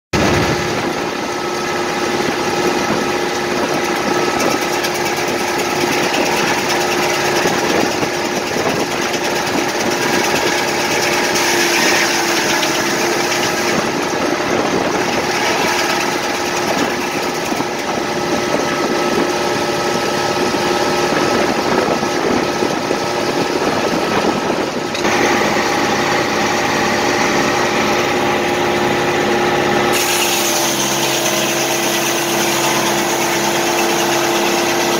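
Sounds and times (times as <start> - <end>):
engine driving circular saw: 0.2 - 34.9.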